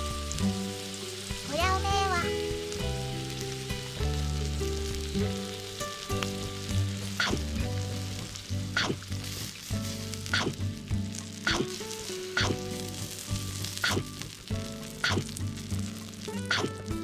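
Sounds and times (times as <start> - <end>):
soft background music: 0.0 - 17.0
steak sizzling in a skillet: 0.0 - 17.0.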